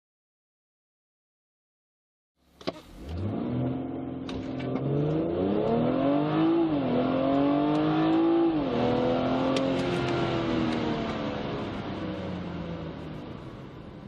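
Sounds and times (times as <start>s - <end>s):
car engine accelerating: 2.6s - 14.0s.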